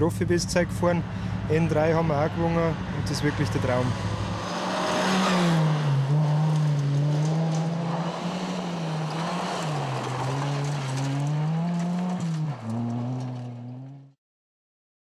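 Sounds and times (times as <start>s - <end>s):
rally car engine revving: 0.0s - 14.2s.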